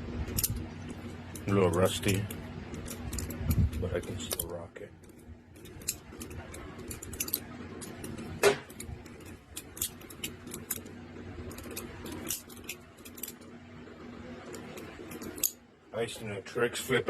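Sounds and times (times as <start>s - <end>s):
butterfly knife handles clacking: 0.3s - 10.9s, 11.5s - 13.5s, 14.5s - 15.6s.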